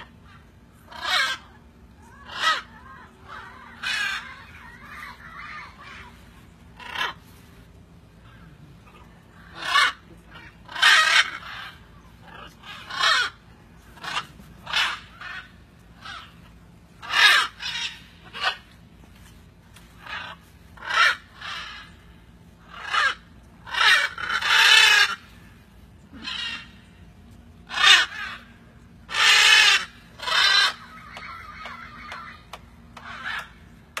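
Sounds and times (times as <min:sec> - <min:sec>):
macaws squawking: 0:00.0 - 0:34.0.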